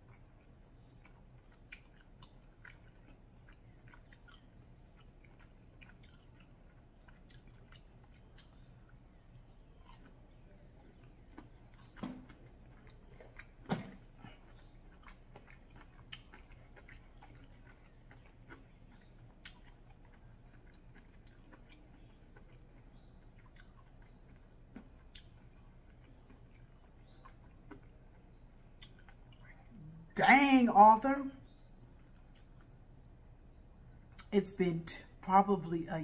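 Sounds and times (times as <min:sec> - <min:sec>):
wet chewing smacks: 0:00.0 - 0:29.9
faint steady hum: 0:00.0 - 0:36.0.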